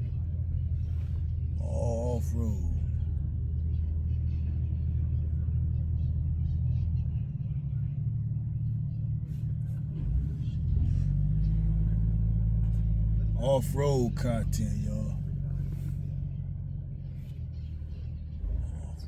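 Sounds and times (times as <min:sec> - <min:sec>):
vehicle engine at low revs: 0:00.0 - 0:19.0.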